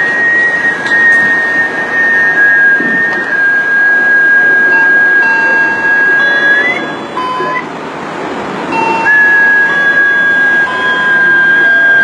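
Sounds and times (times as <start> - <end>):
lower steady electronic tones: 0.0 - 7.7, 8.6 - 12.0
steady high electronic tone: 0.0 - 7.7, 8.6 - 12.0.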